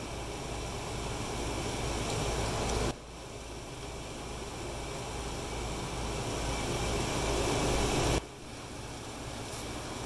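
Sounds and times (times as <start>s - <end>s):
air conditioning hiss: 0.0s - 10.0s.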